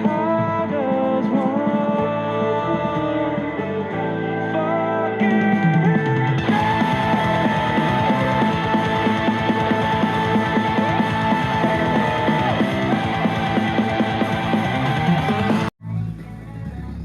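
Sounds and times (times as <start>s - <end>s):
rock music through speakers: 0.0s - 15.7s.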